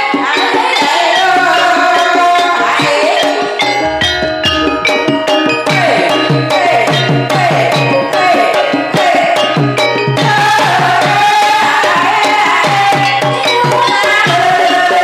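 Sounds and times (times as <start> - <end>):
gamelan music: 0.0 - 15.0
hand drums beating: 0.0 - 15.0.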